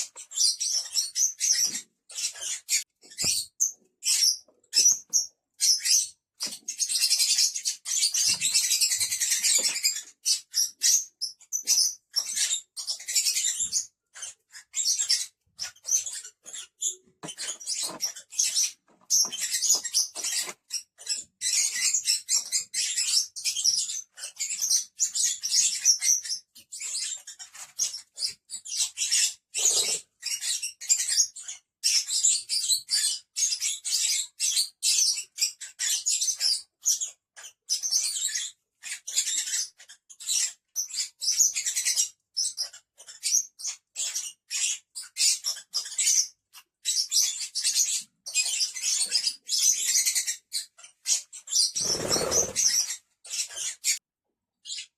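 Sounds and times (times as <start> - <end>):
lovebirds chattering: 0.0 - 46.3, 46.9 - 54.0.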